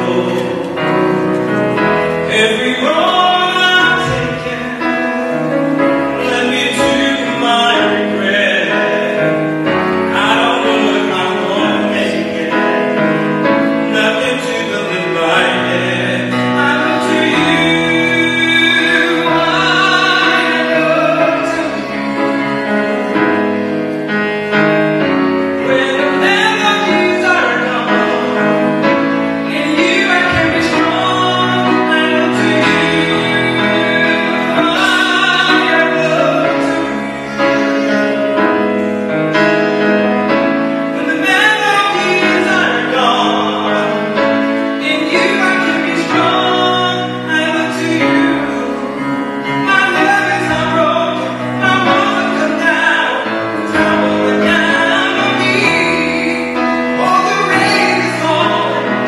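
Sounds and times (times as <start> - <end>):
grand piano chords: 0.0 - 59.0
man singing: 0.0 - 59.0.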